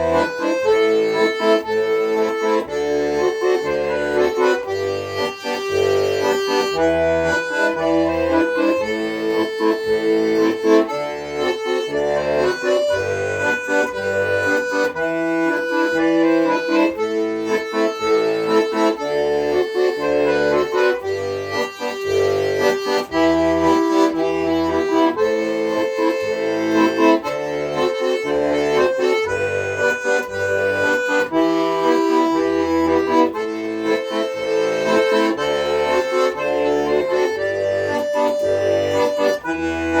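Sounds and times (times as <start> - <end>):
accordion playing folk tune: 0.0 - 40.0.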